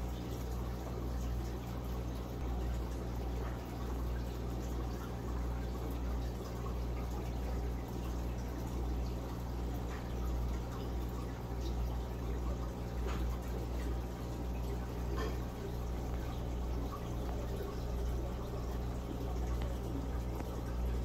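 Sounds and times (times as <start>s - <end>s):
steady low hum: 0.0s - 21.0s
water trickling: 0.0s - 21.0s.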